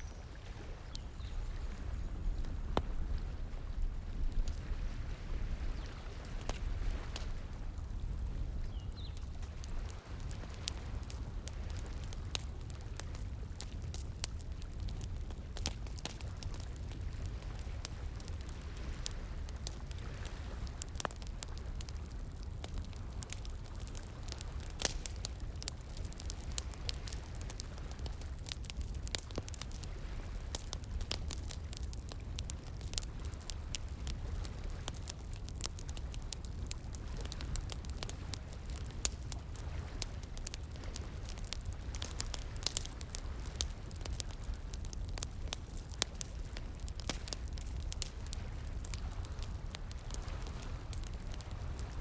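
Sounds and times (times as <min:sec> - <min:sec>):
wood fire crackling and popping: 0:00.4 - 0:52.0.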